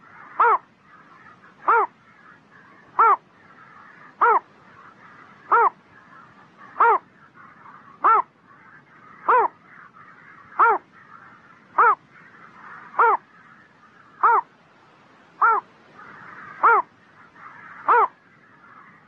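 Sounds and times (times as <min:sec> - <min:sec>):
heron harsh call: 0:00.0 - 0:05.8, 0:06.5 - 0:13.3, 0:14.2 - 0:14.5, 0:15.4 - 0:18.2.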